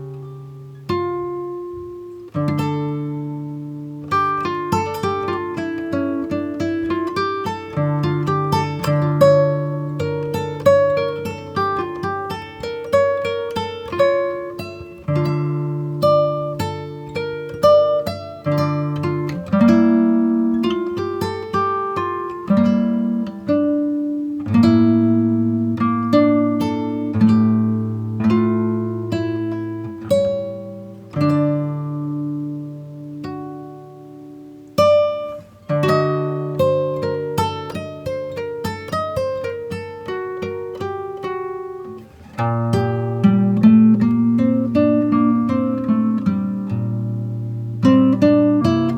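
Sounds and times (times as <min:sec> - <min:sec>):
plucked guitar music: 0:00.0 - 0:48.9.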